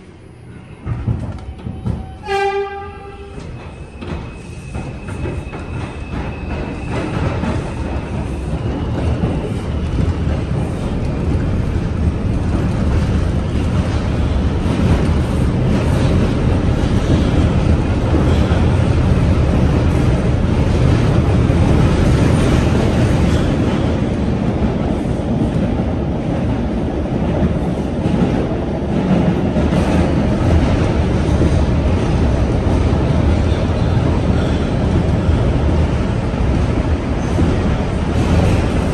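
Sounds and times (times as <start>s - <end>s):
subway train wheels rumbling: 0.0s - 38.9s.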